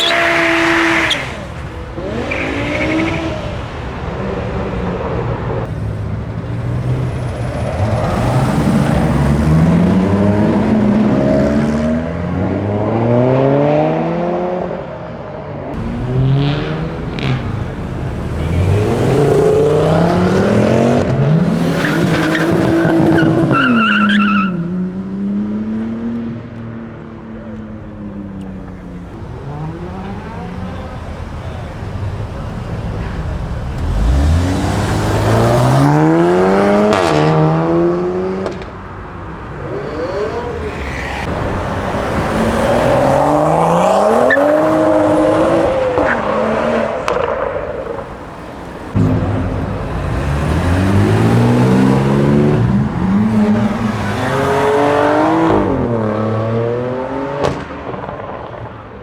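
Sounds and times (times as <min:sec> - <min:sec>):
cars accelerating hard: 0:00.0 - 0:59.0.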